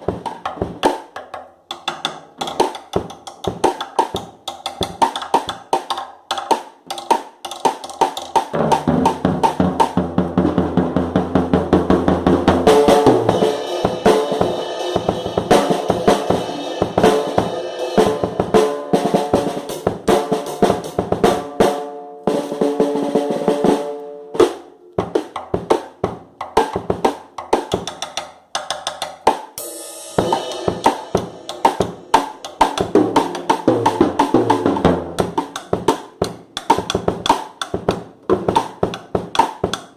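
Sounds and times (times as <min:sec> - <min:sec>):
drum kit played fast: 0:00.0 - 0:39.9.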